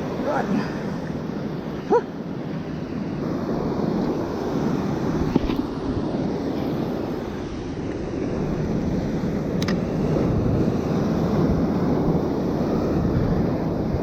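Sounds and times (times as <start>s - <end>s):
ocean surf rumbling: 0.0s - 14.0s
wind buffeting microphone: 0.0s - 14.0s.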